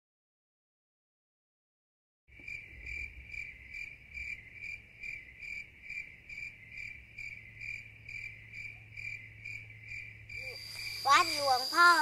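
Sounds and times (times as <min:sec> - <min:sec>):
insect chirping: 0:02.3 - 0:12.0.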